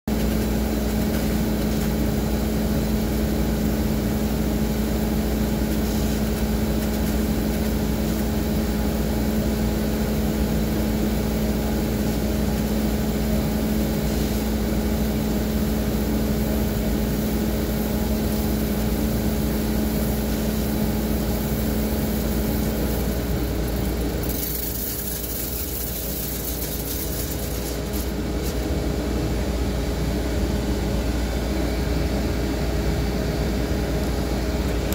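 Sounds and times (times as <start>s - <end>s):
appliance motor hum: 0.1s - 34.9s.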